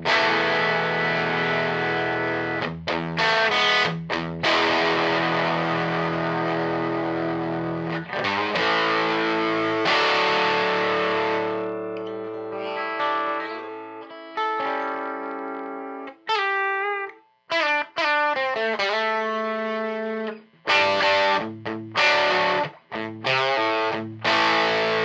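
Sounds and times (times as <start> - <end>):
electric guitar playing: 0.0 - 25.0.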